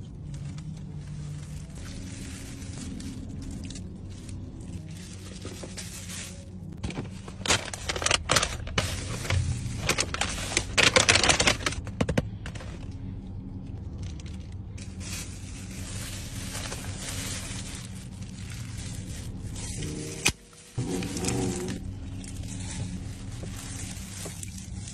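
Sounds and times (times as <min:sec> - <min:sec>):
steady low hum: 0:00.0 - 0:24.9
food packaging rustling: 0:00.1 - 0:12.8, 0:14.0 - 0:24.9
paper wrapper tearing and crinkling: 0:00.2 - 0:11.9, 0:14.0 - 0:24.9.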